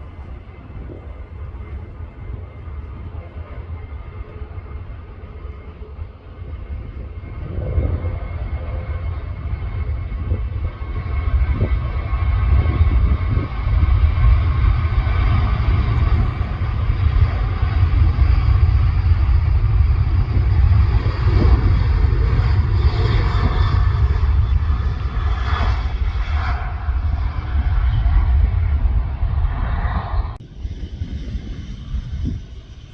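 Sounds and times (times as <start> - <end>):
jet engines rumbling: 0.0 - 32.9.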